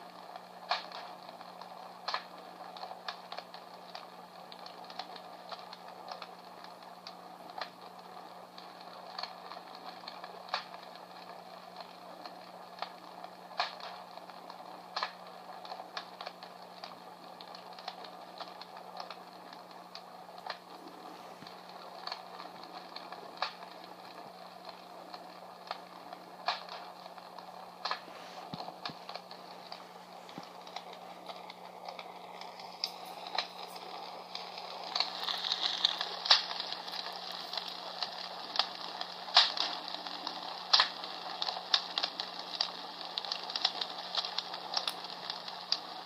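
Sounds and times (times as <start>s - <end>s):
recorded fire crackling: 0.0s - 46.0s
steady low hum: 0.0s - 46.0s.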